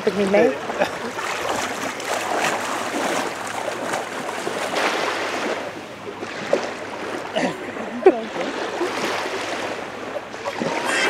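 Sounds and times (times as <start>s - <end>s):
seawater splashing around legs: 0.6s - 11.0s.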